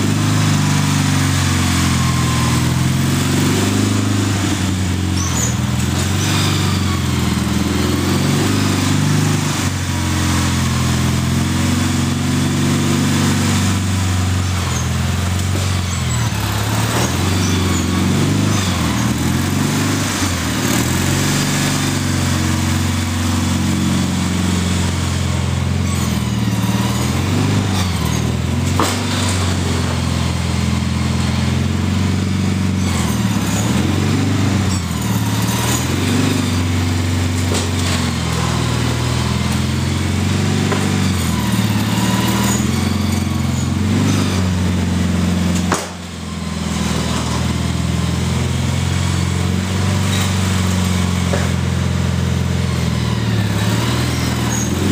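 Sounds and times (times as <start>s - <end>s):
garden tractor engine under load: 0.0s - 54.9s.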